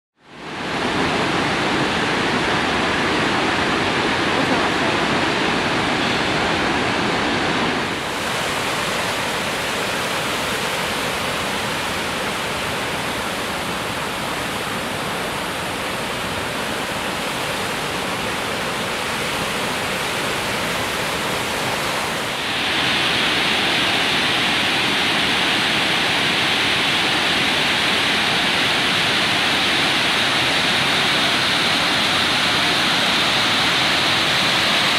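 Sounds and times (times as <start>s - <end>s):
waterfall rushing over rocks: 0.2s - 34.9s.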